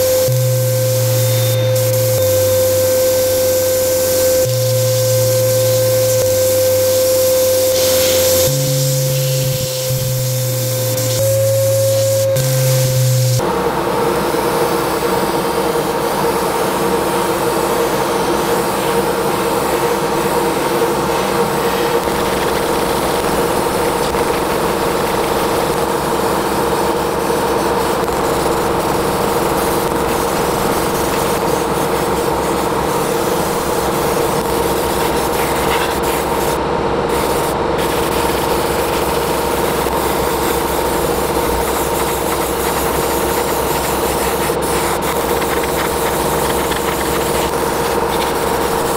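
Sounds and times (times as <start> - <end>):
small electric motor running: 0.0 - 13.4, 21.2 - 26.6, 27.6 - 48.9.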